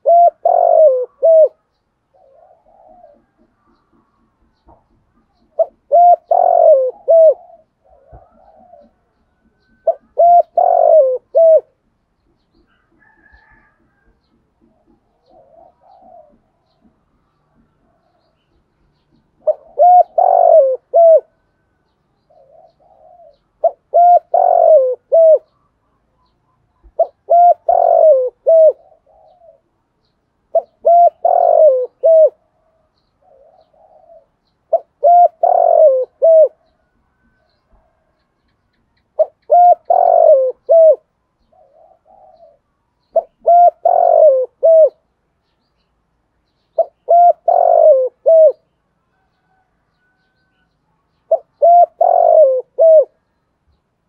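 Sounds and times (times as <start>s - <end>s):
dove cooing: 0.0s - 12.0s, 12.6s - 18.4s, 19.0s - 21.7s, 22.3s - 25.6s, 26.8s - 29.8s, 30.5s - 45.1s, 46.7s - 50.6s, 51.3s - 53.3s.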